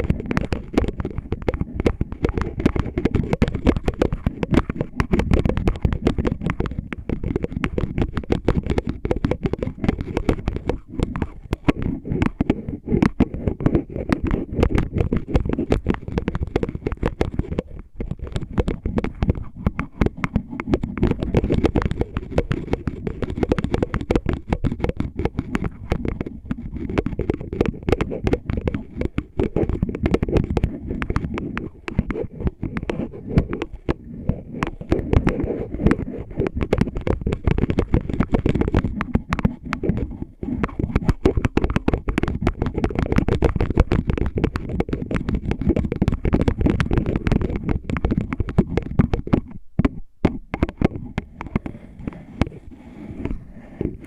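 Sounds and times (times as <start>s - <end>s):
scratching and tapping on bottle: 0.0s - 54.0s.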